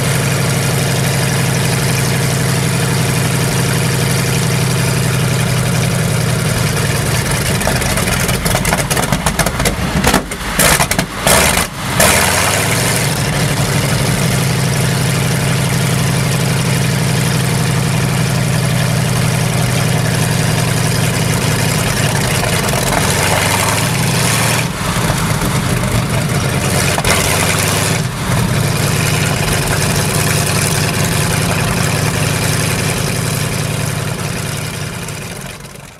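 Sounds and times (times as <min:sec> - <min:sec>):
tank engine throbbing: 0:00.0 - 0:35.9.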